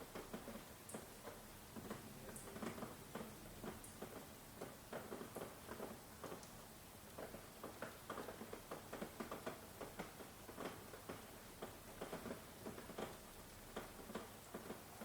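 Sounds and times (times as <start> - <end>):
faint rain hiss: 0.0 - 15.0
raindrops tapping: 0.0 - 15.0.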